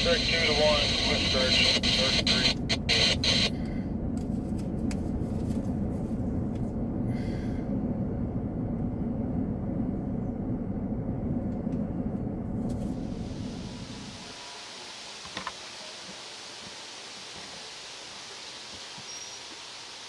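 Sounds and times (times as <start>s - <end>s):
freight train rumbling past: 2.0s - 20.0s.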